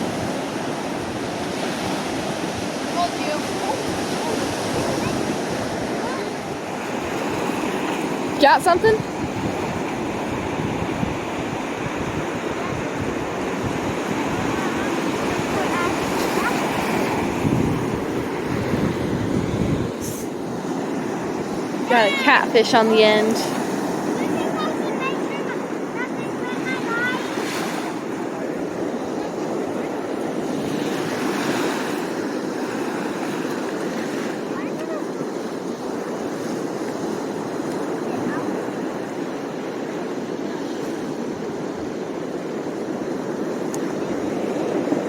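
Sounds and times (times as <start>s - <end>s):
surf washing on a beach: 0.0s - 45.0s
wind buffeting microphone: 0.0s - 45.0s.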